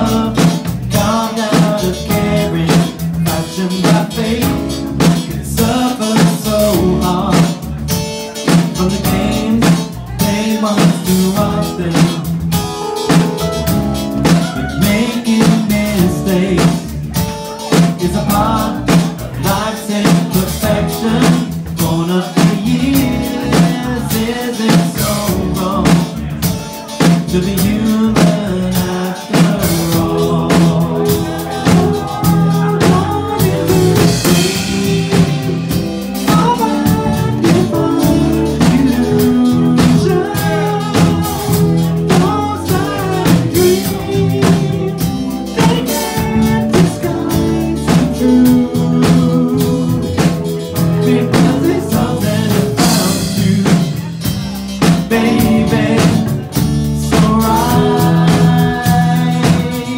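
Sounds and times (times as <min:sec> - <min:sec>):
drum kit: 0:00.0 - 0:59.9
electric bass guitar: 0:00.0 - 0:59.9
keyboards: 0:00.0 - 0:59.9.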